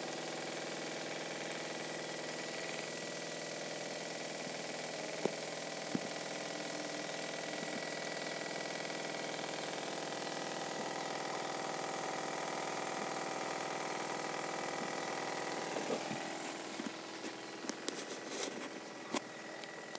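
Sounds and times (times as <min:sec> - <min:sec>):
motor humming with high whine: 0:00.0 - 0:19.9.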